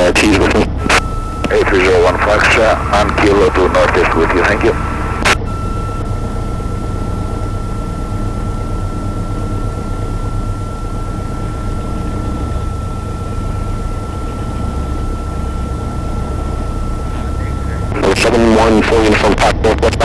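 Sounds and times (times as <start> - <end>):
low aircraft engine rumble: 0.0 - 20.0.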